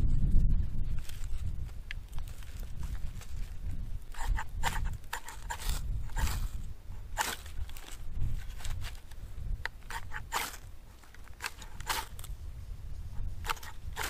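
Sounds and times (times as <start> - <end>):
knife shaving wood: 1.0 - 12.5.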